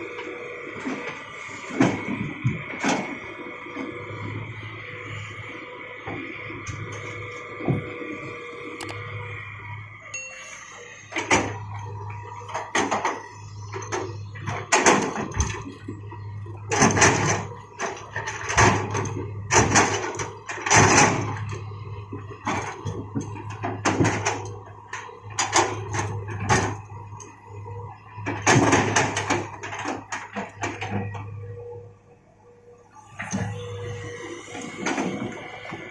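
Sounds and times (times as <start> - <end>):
excavator engine running: 0.0 - 35.9.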